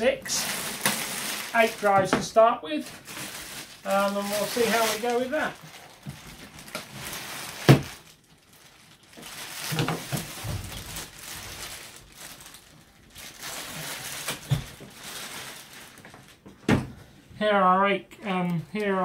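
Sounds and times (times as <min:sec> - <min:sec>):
plastic bag rustling: 0:00.0 - 0:16.6.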